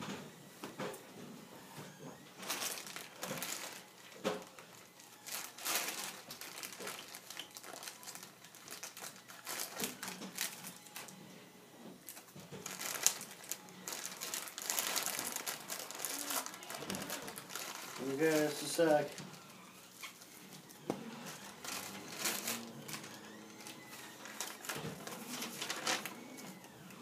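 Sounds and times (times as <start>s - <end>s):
plastic bag crinkling: 2.4s - 11.1s, 12.0s - 26.8s.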